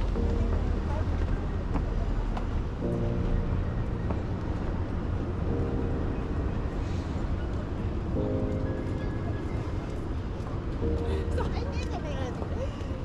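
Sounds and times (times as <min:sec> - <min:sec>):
street ambience rumble: 0:00.0 - 0:13.0.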